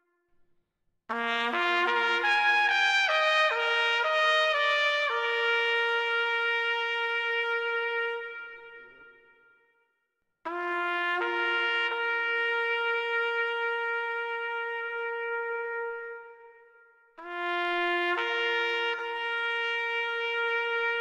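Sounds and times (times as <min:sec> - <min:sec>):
solo trumpet playing: 0:01.1 - 0:09.2, 0:10.5 - 0:16.6, 0:17.2 - 0:21.0.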